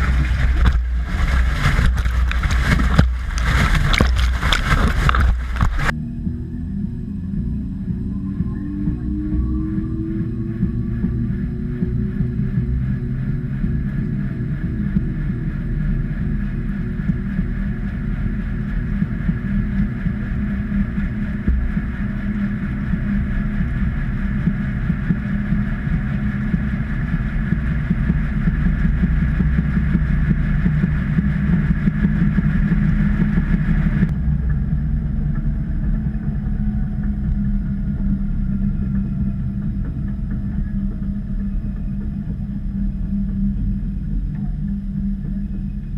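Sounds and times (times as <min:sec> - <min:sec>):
higher hum: 0:00.0 - 0:45.9
washing machine drum rumbling: 0:00.0 - 0:45.9.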